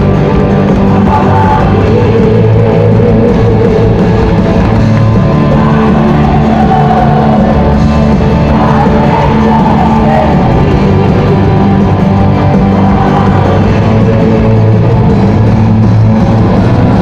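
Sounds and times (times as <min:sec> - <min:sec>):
live rock band playing: 0:00.0 - 0:17.0
sung vocal line: 0:00.0 - 0:17.0.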